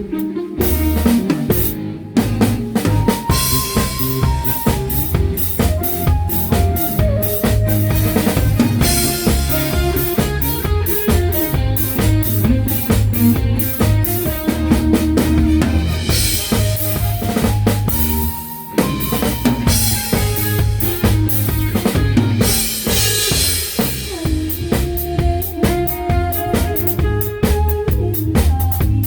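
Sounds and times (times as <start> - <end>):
brass and tenor sax: 0.0 - 1.8, 3.0 - 29.0
drum kit: 0.0 - 29.0
live band playing disco: 0.0 - 29.0.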